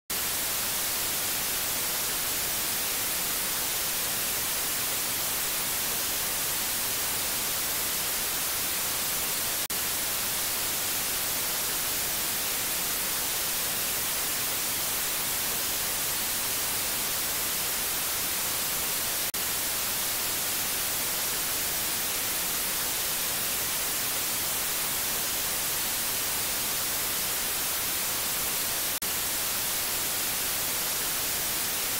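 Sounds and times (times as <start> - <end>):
white noise hiss: 0.1 - 31.9.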